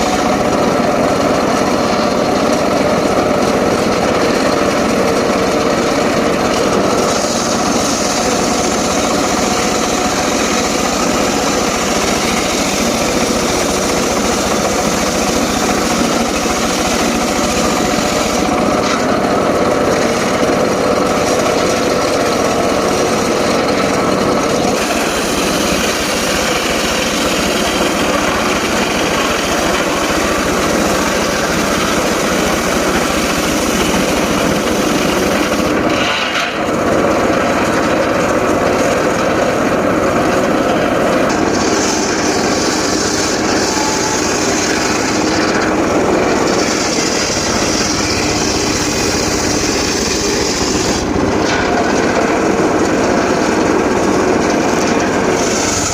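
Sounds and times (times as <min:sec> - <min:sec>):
engine-driven saw cutting wood: 0:00.0 - 0:55.9.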